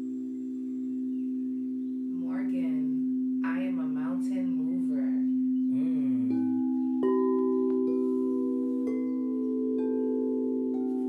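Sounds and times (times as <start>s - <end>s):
singing bowls ringing: 0.0s - 11.0s
steady low hum: 0.0s - 11.0s.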